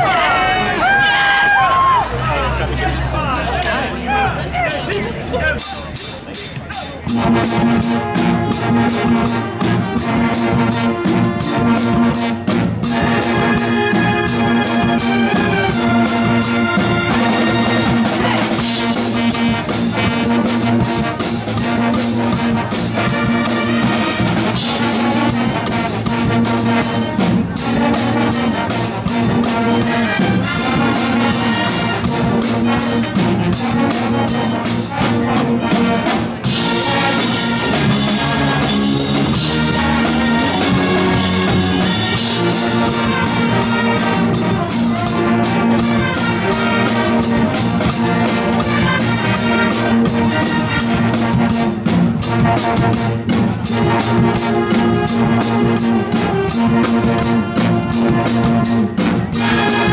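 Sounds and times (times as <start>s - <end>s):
brass band playing: 5.6s - 59.9s.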